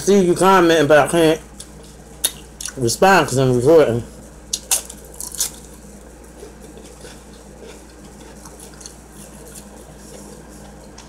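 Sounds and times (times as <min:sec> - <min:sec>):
steady low hum: 0:00.0 - 0:11.0
faint eating sounds: 0:00.4 - 0:11.0.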